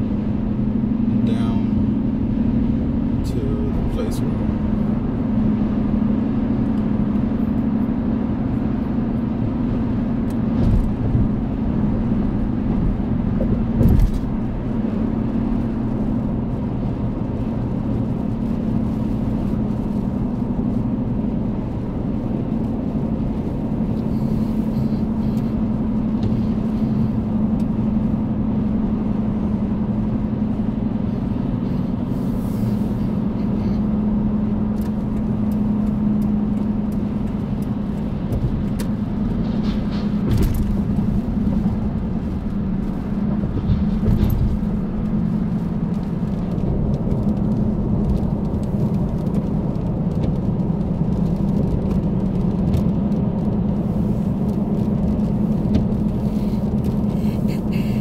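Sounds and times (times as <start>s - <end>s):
car cabin road drone: 0.0s - 58.0s.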